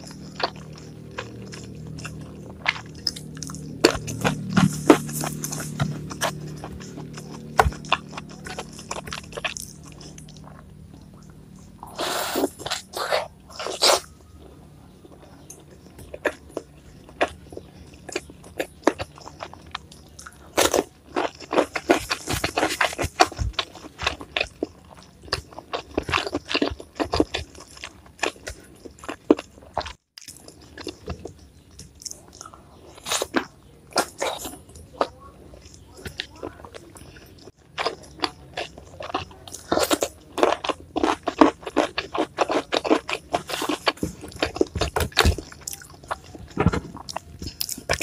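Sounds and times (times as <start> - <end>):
person crunching and chewing: 0.0 - 48.0.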